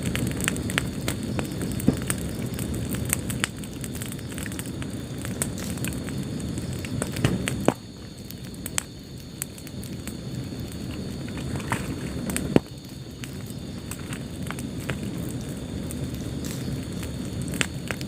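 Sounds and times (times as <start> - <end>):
sharp fire pops: 0.0 - 18.0
wood fire crackling: 0.0 - 18.0.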